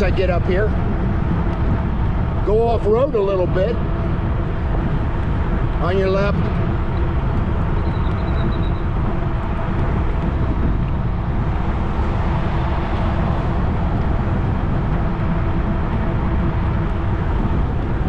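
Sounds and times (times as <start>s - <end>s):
wind rumble on microphone: 0.0s - 18.0s
bike tyre noise on trail: 0.1s - 18.0s.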